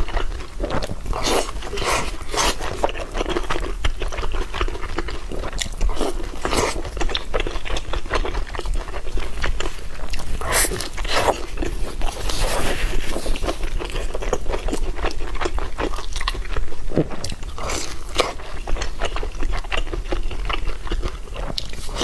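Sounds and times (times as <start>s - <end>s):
person chewing and crunching food: 0.0s - 22.0s.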